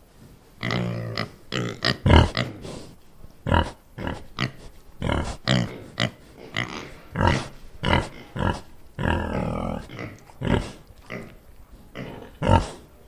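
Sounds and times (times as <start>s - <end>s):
pig grunting: 0.6s - 13.0s.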